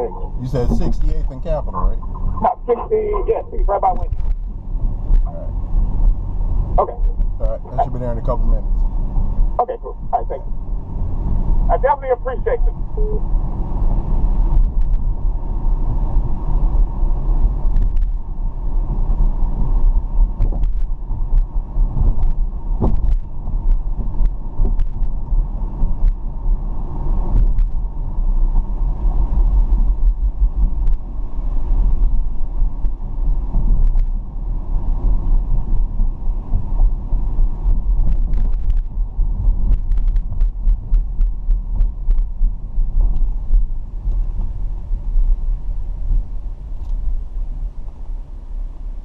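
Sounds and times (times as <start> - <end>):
car engine and road noise: 0.0 - 49.0.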